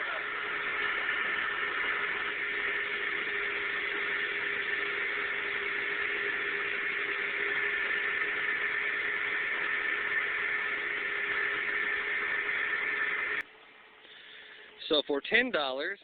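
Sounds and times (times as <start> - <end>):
shampooer suction motor whining: 0.0 - 13.4.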